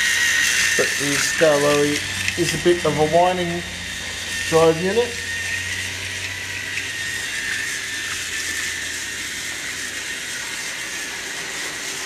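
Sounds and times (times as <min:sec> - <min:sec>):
toy train motor whine: 0:00.0 - 0:12.0.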